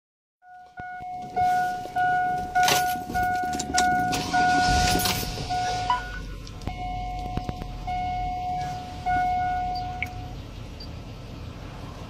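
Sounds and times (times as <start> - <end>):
dashboard warning chime: 0.4 - 11.0.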